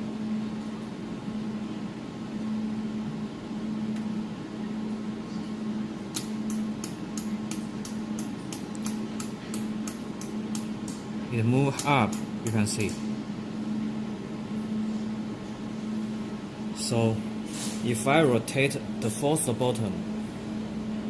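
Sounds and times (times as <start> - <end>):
laser welding machine humming: 0.0 - 21.0.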